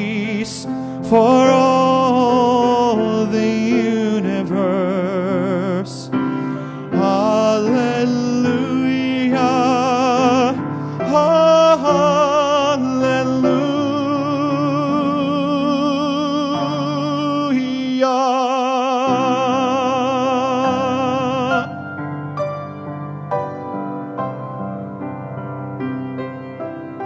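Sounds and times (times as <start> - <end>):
man singing with vibrato: 0.0 - 21.9
grand piano: 0.0 - 27.0.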